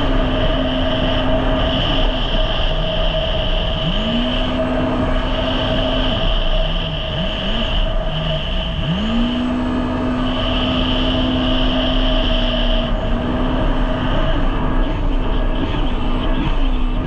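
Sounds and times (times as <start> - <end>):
constant rushing noise: 0.0 - 17.0
jet ski engine running: 0.0 - 17.0.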